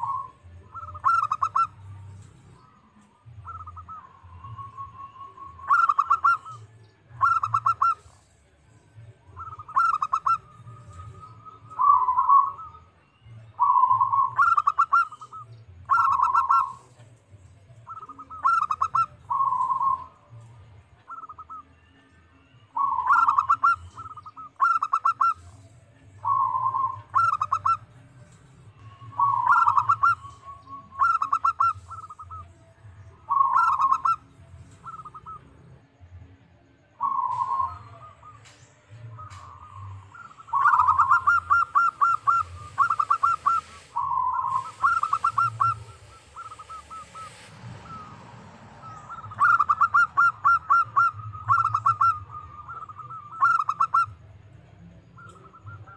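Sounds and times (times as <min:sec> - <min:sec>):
dove cooing: 0:00.0 - 0:02.8, 0:03.4 - 0:08.2, 0:09.3 - 0:13.0, 0:13.6 - 0:17.0, 0:17.9 - 0:20.3, 0:22.8 - 0:25.6, 0:26.2 - 0:27.9, 0:28.9 - 0:32.4, 0:33.3 - 0:35.6, 0:37.0 - 0:54.3, 0:55.0 - 0:55.9.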